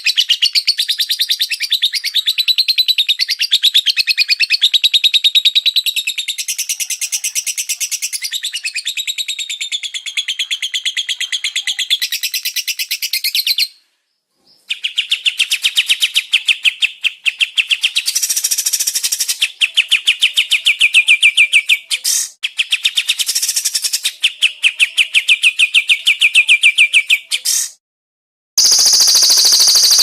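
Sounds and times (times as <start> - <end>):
songbird rapid chirps: 0.0 - 27.6, 28.6 - 30.0.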